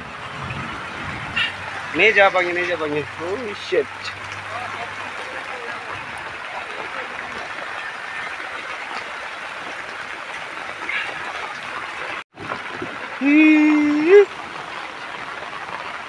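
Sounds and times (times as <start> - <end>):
heavy rain on flooded street: 0.0 - 16.0.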